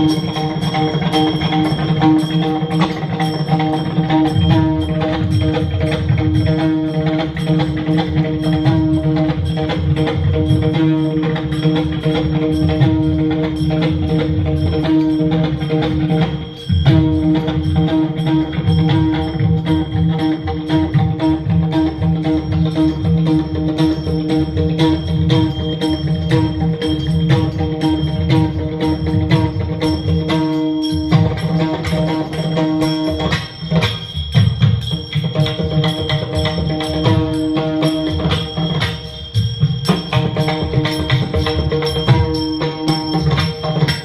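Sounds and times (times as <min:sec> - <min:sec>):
devotional music with percussion: 0:00.0 - 0:44.0.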